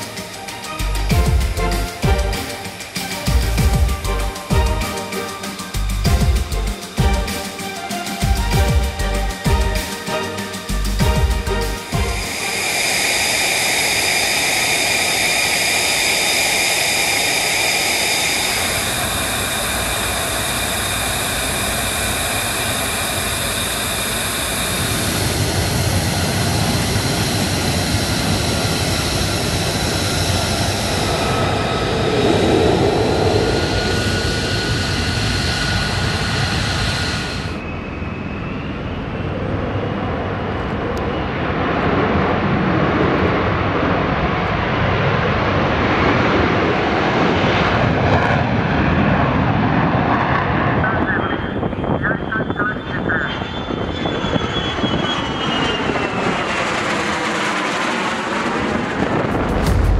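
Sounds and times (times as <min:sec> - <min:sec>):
jet engine turbine whine: 0:00.0 - 0:59.9.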